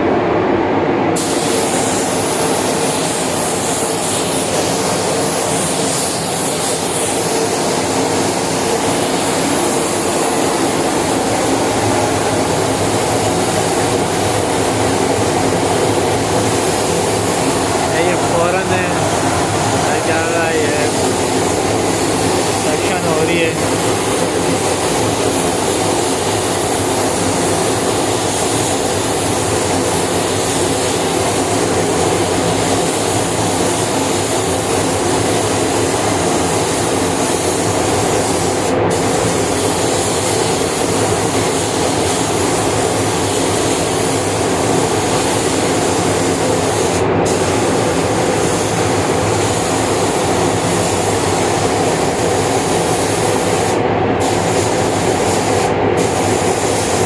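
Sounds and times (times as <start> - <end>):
spray booth fans running: 0.0 - 57.0
paint spray gun hissing: 1.2 - 57.0.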